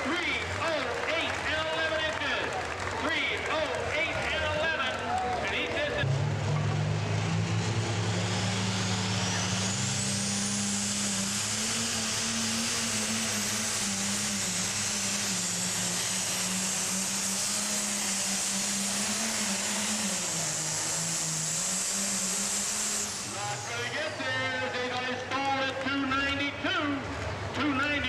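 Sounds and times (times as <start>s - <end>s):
diesel tractor engine at full throttle: 0.0s - 28.0s
high turbo whine: 0.0s - 28.0s.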